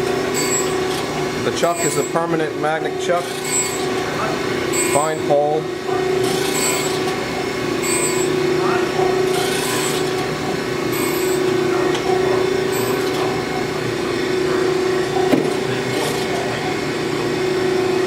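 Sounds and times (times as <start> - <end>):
grinding wheel hissing: 0.0 - 5.4, 6.1 - 18.0
grinder spindle hum: 0.0 - 18.0.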